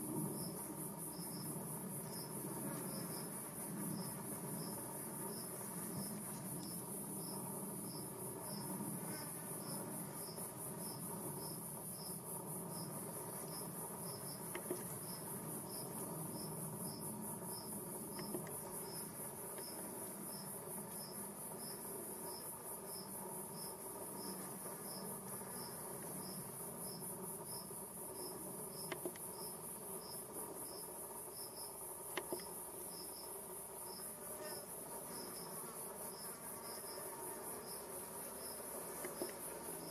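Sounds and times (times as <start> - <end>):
insect high pulsing trill: 0.0 - 39.9.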